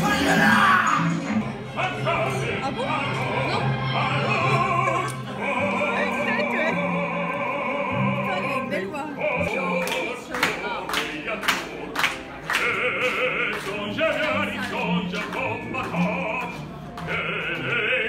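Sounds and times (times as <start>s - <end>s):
operatic singing: 0.0s - 18.0s.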